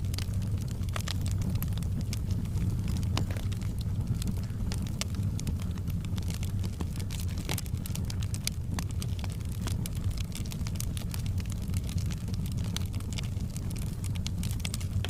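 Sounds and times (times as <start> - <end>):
bonfire crackling and popping: 0.0 - 15.0
low fire rumble: 0.0 - 15.0.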